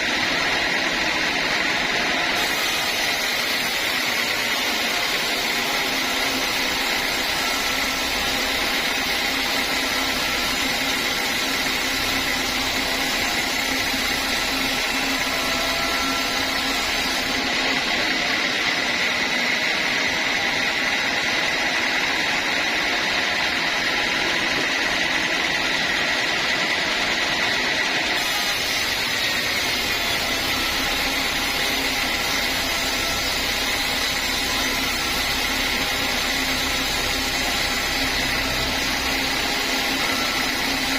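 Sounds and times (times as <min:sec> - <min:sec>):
sawmill saw cutting timber: 0:00.0 - 0:40.9.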